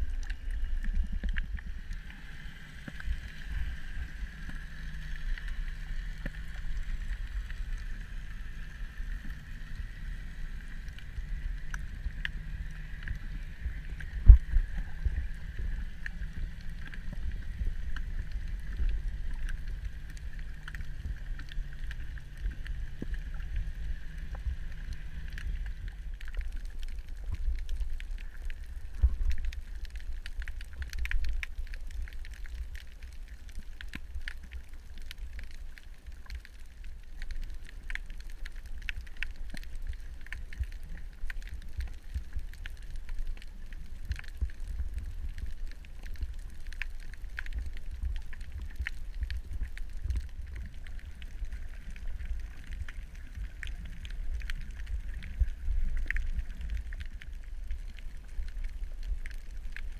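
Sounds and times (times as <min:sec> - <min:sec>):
crackling clicks: 0:00.0 - 0:59.9
low underwater rumble: 0:00.0 - 0:59.9.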